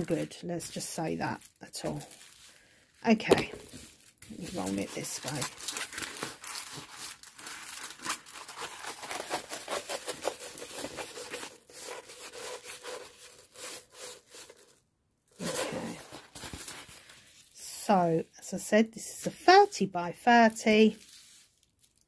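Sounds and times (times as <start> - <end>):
rolled canvas rustling: 0.0 - 14.8, 15.4 - 17.6, 20.9 - 22.0.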